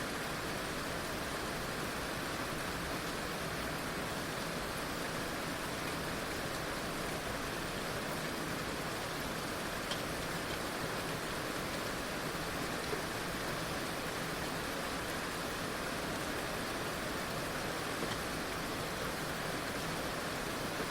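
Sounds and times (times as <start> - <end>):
heavy rain falling: 0.1 - 20.9.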